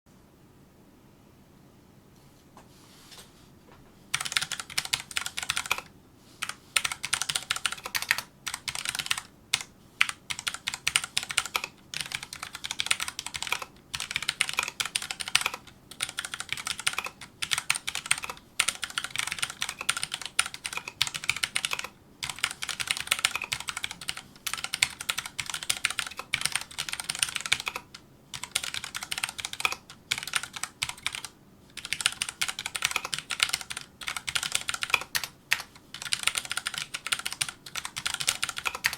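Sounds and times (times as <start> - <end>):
mechanical keyboard typing: 4.1 - 38.9.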